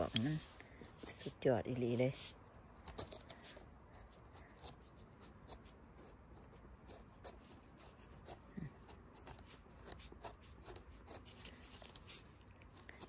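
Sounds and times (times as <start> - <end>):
knife scraping mushroom stem: 0.0 - 13.0.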